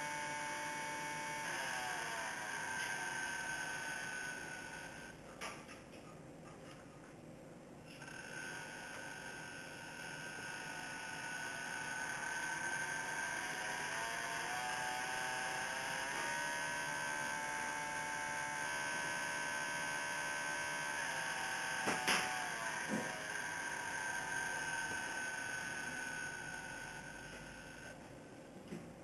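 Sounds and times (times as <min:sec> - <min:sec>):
brushless motor whining: 0:00.0 - 0:05.2, 0:08.0 - 0:28.0.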